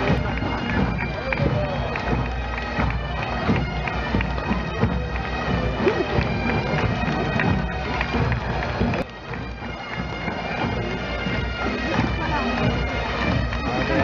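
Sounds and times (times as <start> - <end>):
bagpipes playing a tune: 0.0 - 14.0.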